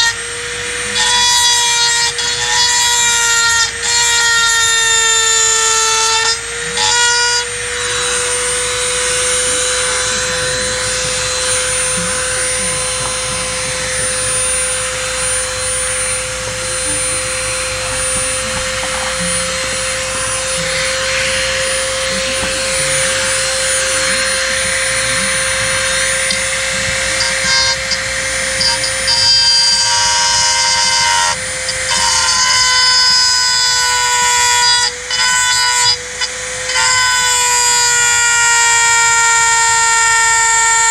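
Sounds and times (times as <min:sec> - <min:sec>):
handheld power tool running: 0:00.0 - 0:40.9.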